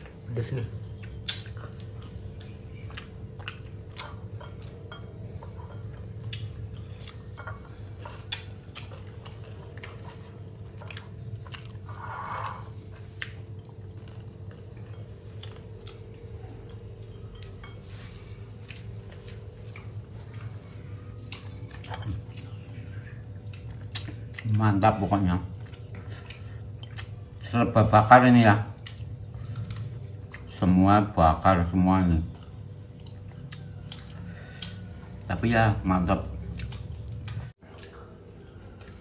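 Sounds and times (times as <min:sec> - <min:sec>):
people chewing and biting: 0:00.0 - 0:31.0, 0:32.2 - 0:39.0
steady low hum: 0:00.0 - 0:39.0.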